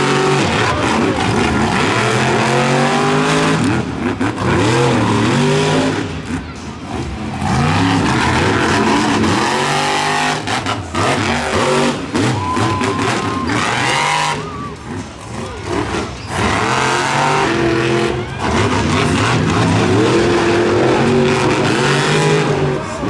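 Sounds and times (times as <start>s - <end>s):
monster truck engines racing: 0.0s - 23.0s.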